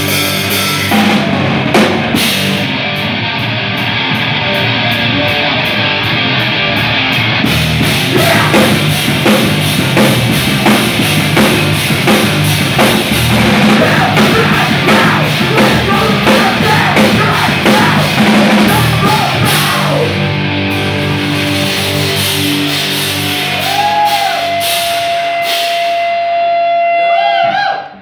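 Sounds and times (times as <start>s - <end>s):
punk band playing live: 0.0s - 27.9s.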